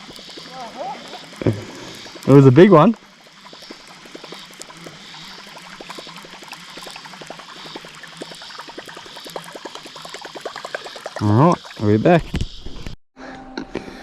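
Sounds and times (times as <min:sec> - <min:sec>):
river water trickling and gurgling: 0:00.0 - 0:12.8.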